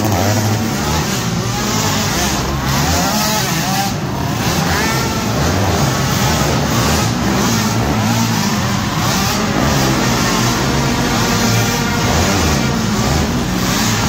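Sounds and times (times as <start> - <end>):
quad engines revving: 0.0 - 14.0.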